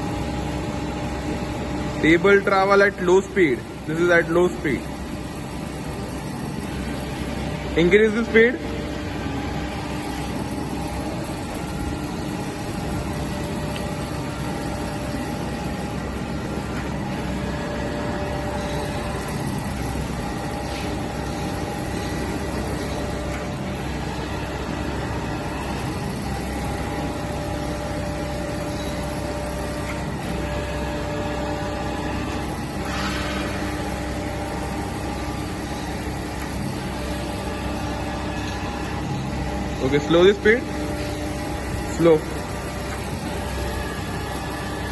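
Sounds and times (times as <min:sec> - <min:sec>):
surface grinder machine hum: 0:00.0 - 0:44.9.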